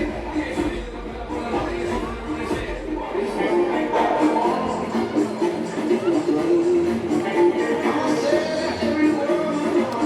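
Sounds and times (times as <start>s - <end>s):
live band dance music: 0.0s - 10.0s.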